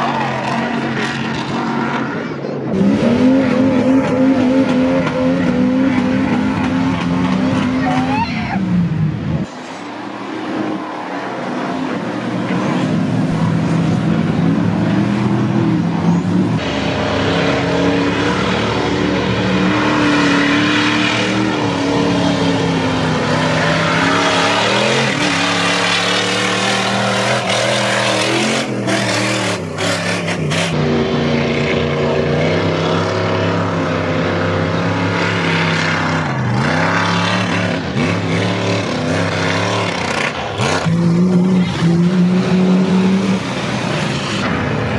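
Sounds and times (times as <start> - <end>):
truck engines revving: 0.0 - 44.9.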